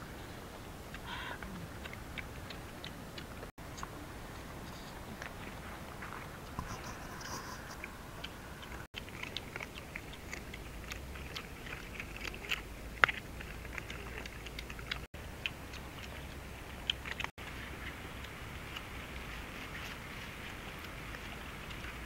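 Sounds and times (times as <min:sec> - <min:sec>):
dogs chewing and crunching: 0:00.1 - 0:22.0.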